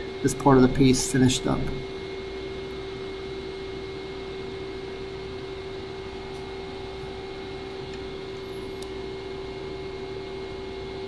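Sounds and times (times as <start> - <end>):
high machine whine: 0.0 - 11.0
lathe machine hum: 0.0 - 11.0.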